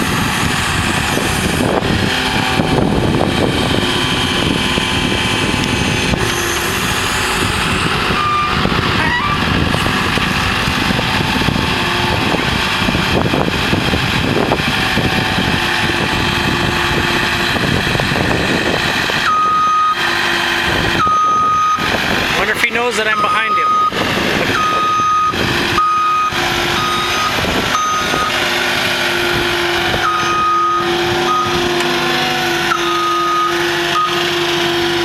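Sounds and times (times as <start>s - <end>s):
loader engine running: 0.0s - 35.0s.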